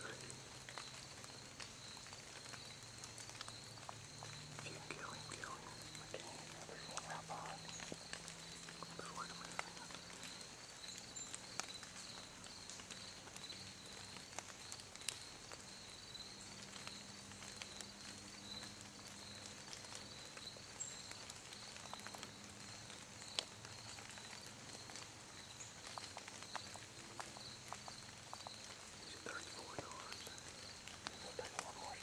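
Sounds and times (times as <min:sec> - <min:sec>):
clicks in dry leaf litter: 0:00.0 - 0:32.0
insect pulsing call: 0:00.0 - 0:32.0.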